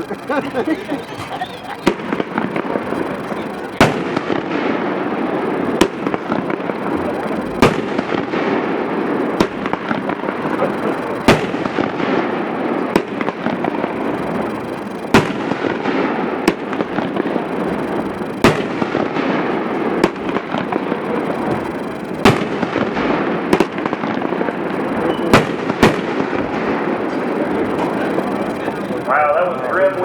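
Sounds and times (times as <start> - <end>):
steady noise: 0.0 - 30.0
firework booms: 1.2 - 29.0.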